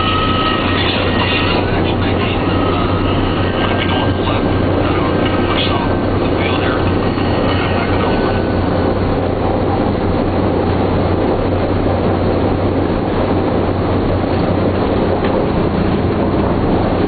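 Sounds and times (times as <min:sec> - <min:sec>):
aircraft engines droning: 0:00.0 - 0:17.0.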